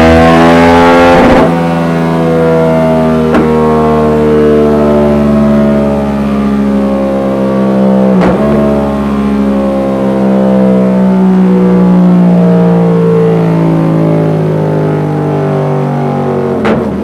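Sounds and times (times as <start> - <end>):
exhaust crack: 0.0 - 17.0
motorcycle engine revving: 0.0 - 17.0.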